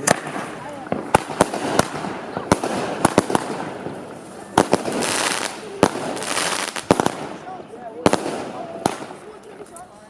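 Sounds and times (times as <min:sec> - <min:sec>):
fireworks bangs: 0:00.0 - 0:09.8
fireworks crackling hiss: 0:00.0 - 0:10.0.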